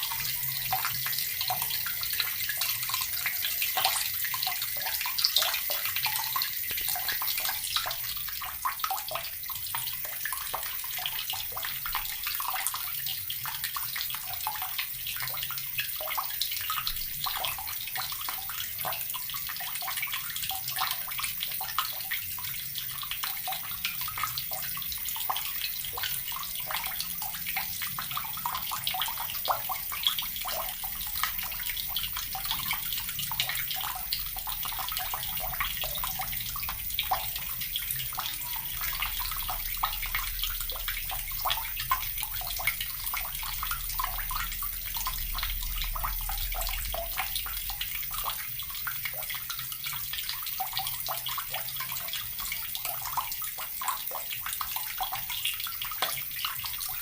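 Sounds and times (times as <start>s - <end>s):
water running from a tap: 0.0s - 57.0s
water splashing and dripping: 0.0s - 57.0s.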